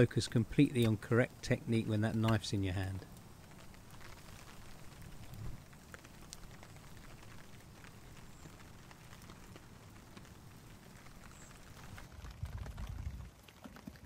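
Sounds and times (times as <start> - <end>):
light rain pattering: 0.0 - 14.0
rain drip ticks: 0.0 - 14.0.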